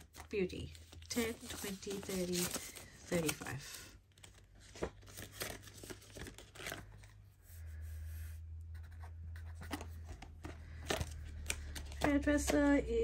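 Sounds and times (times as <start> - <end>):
banknotes rustling: 0.0 - 7.8, 9.4 - 12.8.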